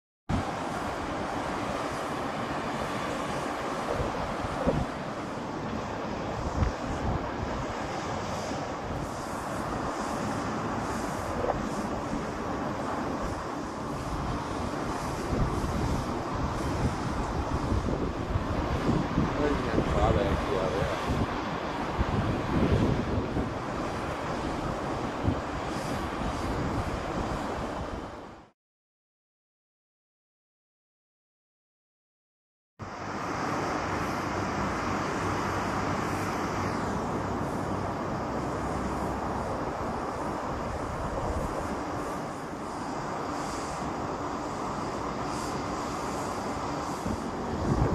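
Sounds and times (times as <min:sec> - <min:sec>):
wind buffeting microphone: 0:00.3 - 0:28.4, 0:33.8 - 0:47.9
distant jet engines: 0:00.3 - 0:28.5, 0:32.8 - 0:47.9.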